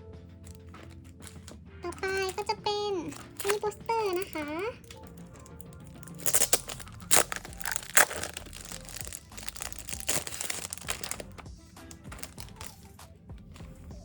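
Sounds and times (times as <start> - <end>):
soft background music: 0.0 - 14.0
packaging crinkling and crackling: 0.4 - 14.0.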